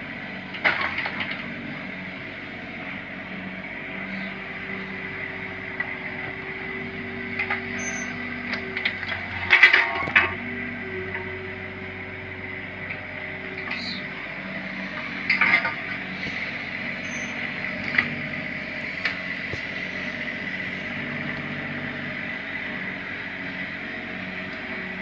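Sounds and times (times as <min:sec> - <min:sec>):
mini excavator hydraulic whine: 0:00.4 - 0:25.0.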